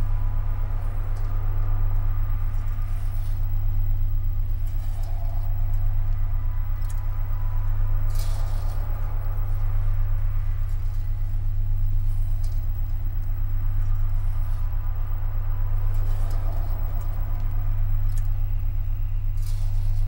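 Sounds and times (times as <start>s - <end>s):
crackles: 0.0s - 20.0s
deep electronic drone: 0.0s - 20.0s.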